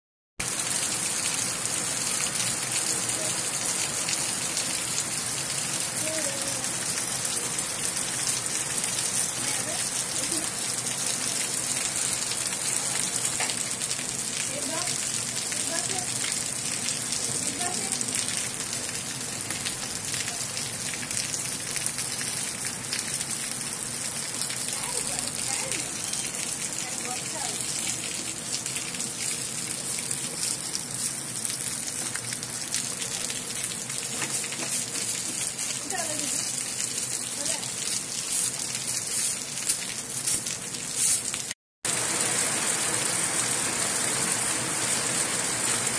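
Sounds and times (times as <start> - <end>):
rain falling on foliage and water: 0.4 - 45.9.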